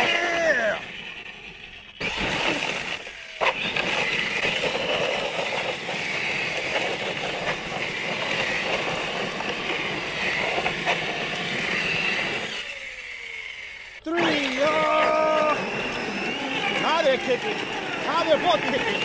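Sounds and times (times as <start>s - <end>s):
electric motors whining: 0.0s - 19.0s
tyres spinning on gravel: 0.0s - 19.0s.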